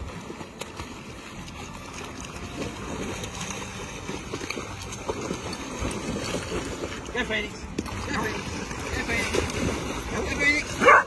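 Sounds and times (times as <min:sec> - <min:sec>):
dogs splashing through water: 0:00.0 - 0:11.0.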